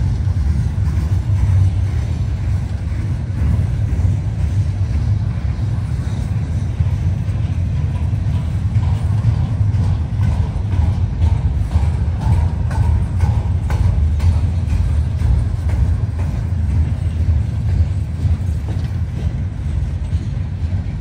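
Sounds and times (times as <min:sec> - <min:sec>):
freight train rumble: 0:00.0 - 0:21.0
train wheels clicking and clattering: 0:00.0 - 0:21.0.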